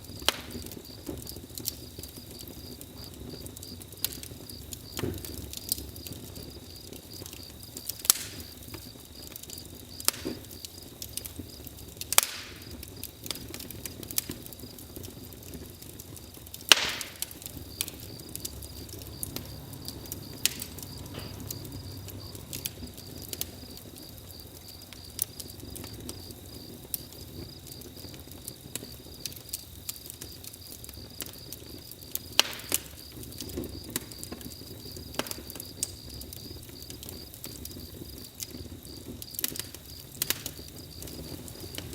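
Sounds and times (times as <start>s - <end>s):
campfire crackling and popping: 0.0s - 41.9s
crickets chirping: 0.0s - 41.9s.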